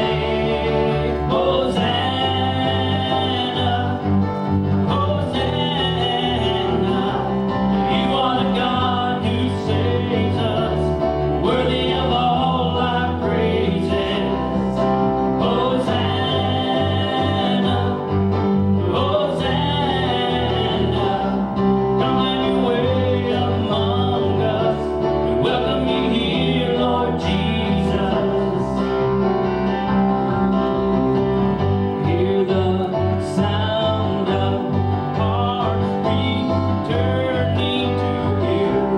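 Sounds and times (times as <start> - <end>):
guitar: 0.0 - 38.9
person singing gospel song: 0.0 - 38.9
steady bass line: 0.0 - 38.9.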